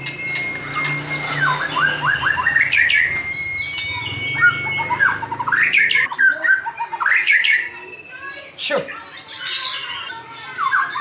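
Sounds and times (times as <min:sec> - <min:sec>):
bird singing chirps and whistles: 0:00.0 - 0:11.0.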